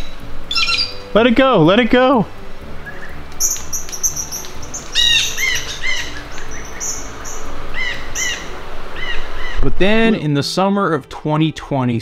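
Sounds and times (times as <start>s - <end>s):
songbird alarm chirps: 0.0s - 10.3s.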